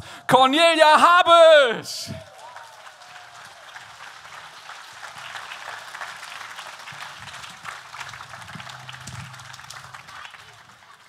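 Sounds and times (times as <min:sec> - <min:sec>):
large crowd applauding: 0:00.6 - 0:11.0.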